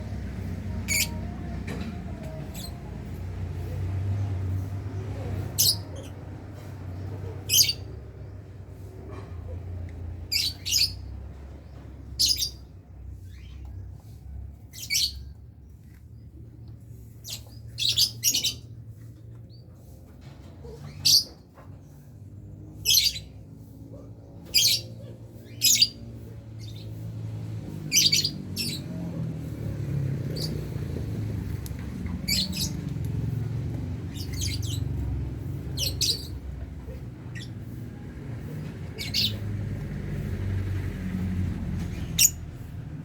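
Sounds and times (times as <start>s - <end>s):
lovebirds calling: 0.0s - 19.6s, 20.8s - 21.4s, 22.8s - 27.1s, 27.8s - 40.3s, 41.2s - 42.9s.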